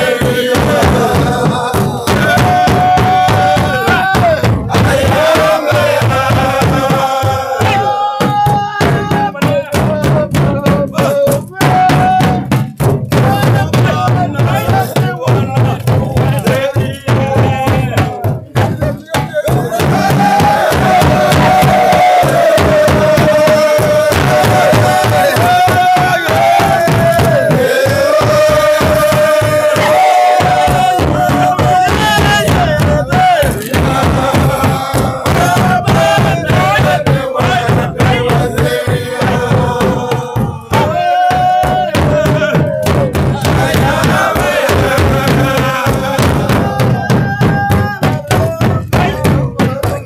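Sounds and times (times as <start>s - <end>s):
drum ensemble playing fast: 0.0s - 50.0s.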